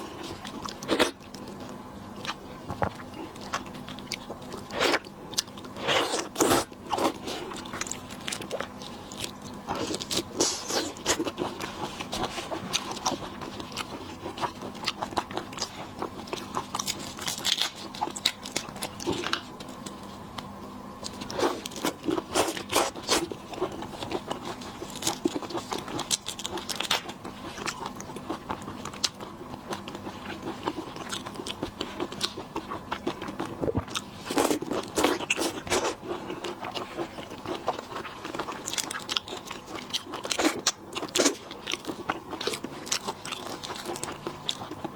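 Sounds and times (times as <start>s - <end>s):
crunchy bites and chewing: 0.0s - 44.9s
faint steady hum: 0.0s - 44.9s.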